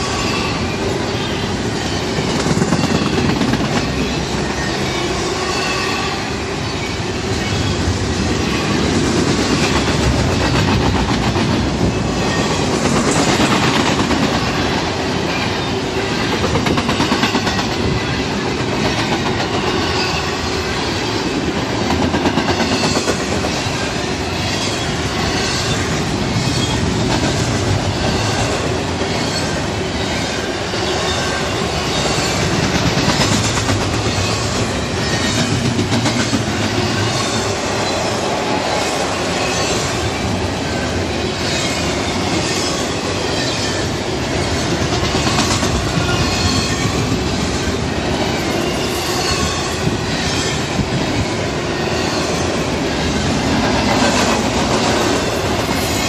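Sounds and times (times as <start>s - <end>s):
train wheels rumbling on rail: 0.0s - 56.0s
clickety-clack over rail joints: 1.8s - 5.0s, 7.4s - 30.2s, 31.0s - 40.6s, 41.4s - 56.0s.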